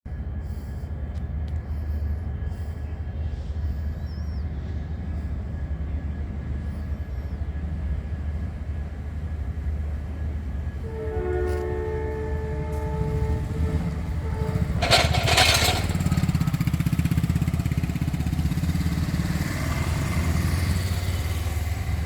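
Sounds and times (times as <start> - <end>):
low train rumble: 0.0 - 22.0.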